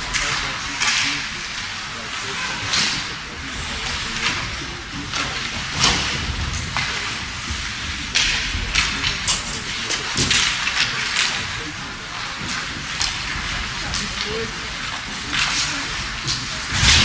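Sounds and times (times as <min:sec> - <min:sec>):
skates scraping on ice: 0:00.0 - 0:17.0.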